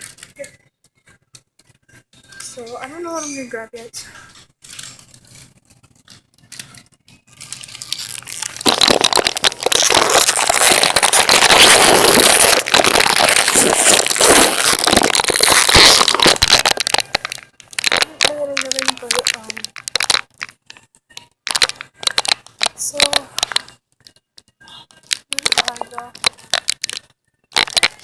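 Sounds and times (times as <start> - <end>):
dense crackling and rustling: 4.4 - 24.2, 24.8 - 28.0.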